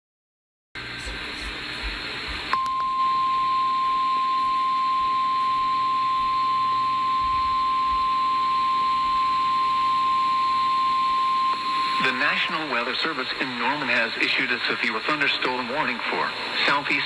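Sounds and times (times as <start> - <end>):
radio hiss: 0.8 - 17.0.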